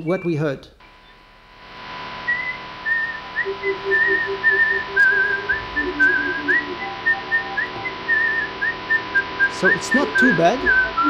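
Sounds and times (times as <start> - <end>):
constant hum: 0.8 - 11.0
steady hiss: 0.8 - 11.0
lower trilled notes: 1.9 - 11.0
warbling whistle-like tones: 2.0 - 11.0.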